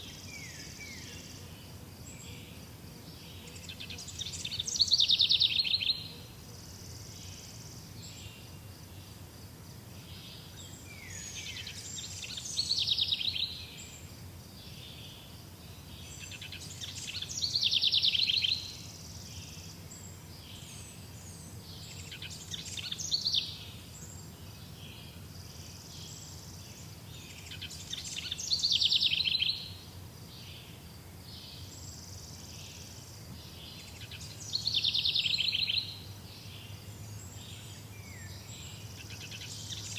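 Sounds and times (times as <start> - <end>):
songbird singing high trill: 3.2 - 6.2, 10.0 - 39.9.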